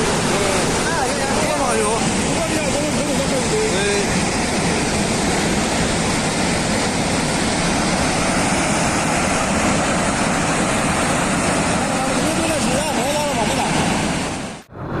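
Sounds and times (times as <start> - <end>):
floodwater rushing: 0.0 - 14.7.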